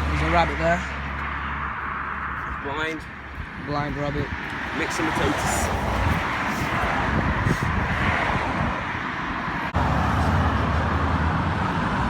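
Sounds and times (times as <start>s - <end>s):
road traffic: 0.0s - 12.0s
wind rumble: 0.0s - 12.0s.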